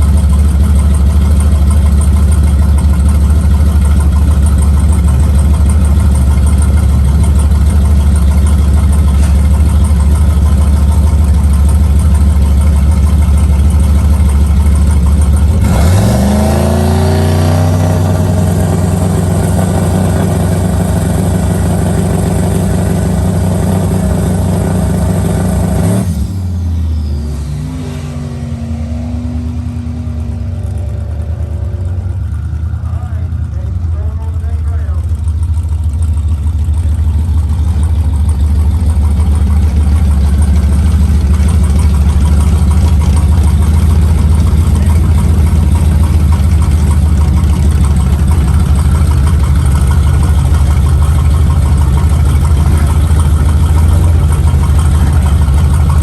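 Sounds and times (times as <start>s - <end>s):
truck engine revving: 2.9s - 56.0s.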